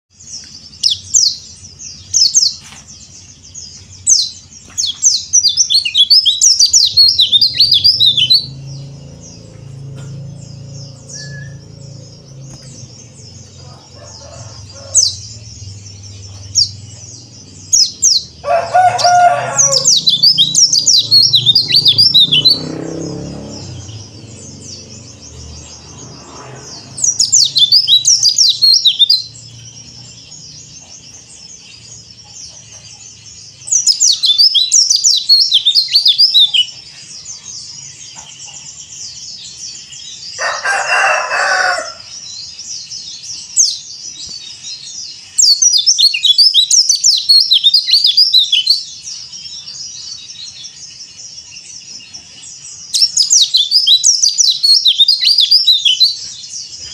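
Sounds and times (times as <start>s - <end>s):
bird twittering chirps: 0.1s - 56.9s.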